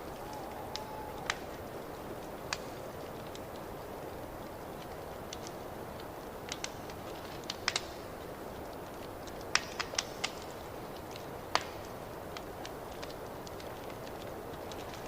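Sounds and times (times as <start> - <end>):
fire flames rushing: 0.0 - 15.0
wood fire pops and snaps: 0.0 - 15.0.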